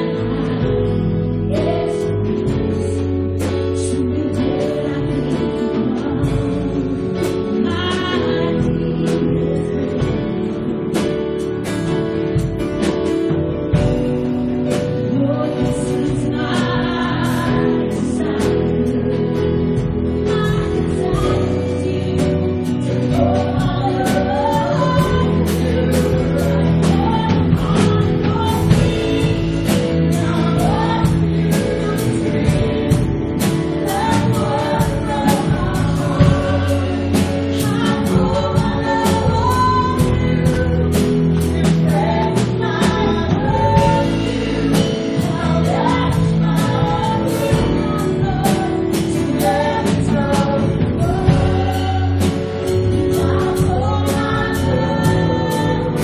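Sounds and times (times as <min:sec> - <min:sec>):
guitars and drum kit: 0:00.0 - 0:56.0
low bass line: 0:00.0 - 0:56.0
people singing: 0:00.0 - 0:56.0.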